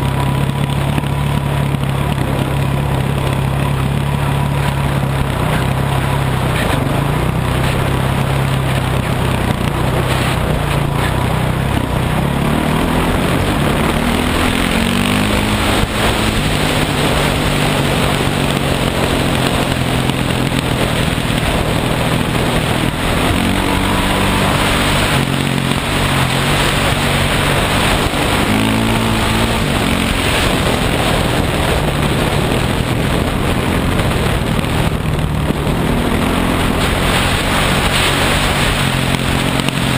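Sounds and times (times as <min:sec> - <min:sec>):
dirt bike engine revving: 0:00.0 - 0:39.9
steady rushing noise: 0:00.0 - 0:39.9.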